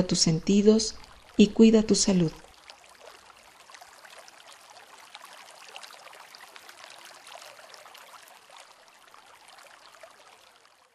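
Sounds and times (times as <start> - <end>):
water trickling: 0.0 - 10.9.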